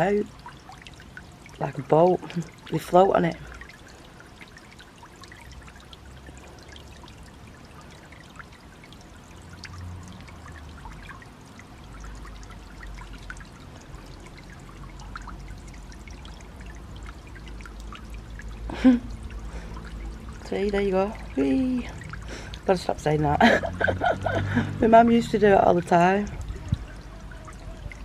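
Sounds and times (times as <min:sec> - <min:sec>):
water droplet ticks: 0:00.0 - 0:28.0
water trickling and splashing: 0:00.0 - 0:28.0.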